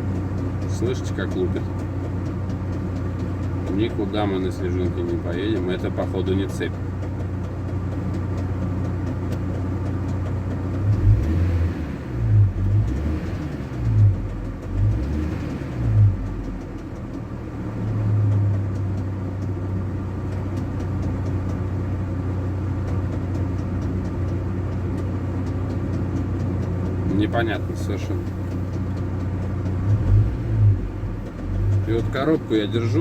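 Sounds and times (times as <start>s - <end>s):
engine running with steady knock: 0.0s - 33.0s.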